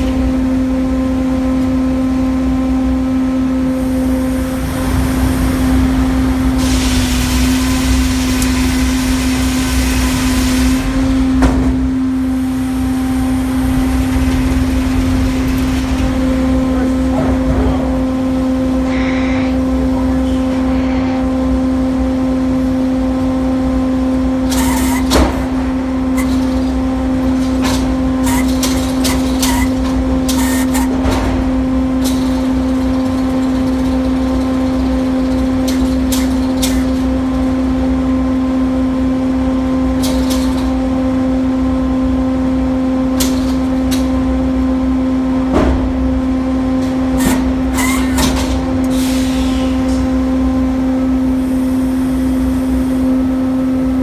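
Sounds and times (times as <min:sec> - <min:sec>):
knocks and clanks of moving parts: 0:00.0 - 0:21.4, 0:24.1 - 0:54.0
sawmill machinery humming: 0:00.0 - 0:54.0.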